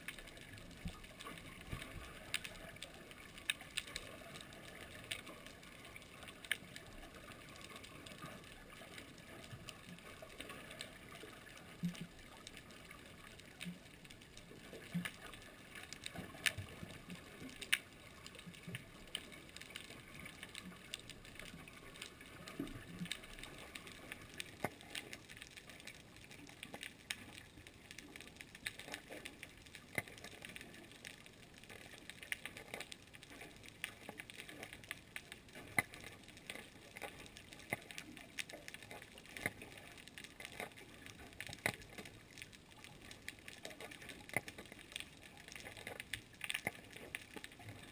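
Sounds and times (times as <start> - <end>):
underwater clicks and crackles: 0.0 - 47.9.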